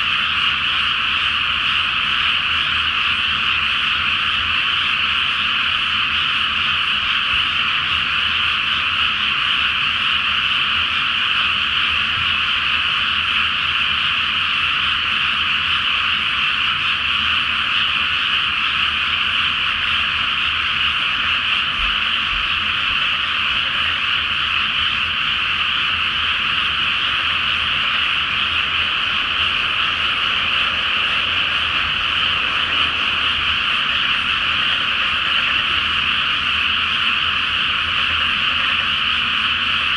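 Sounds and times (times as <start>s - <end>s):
frogs croaking chorus: 0.0s - 39.9s.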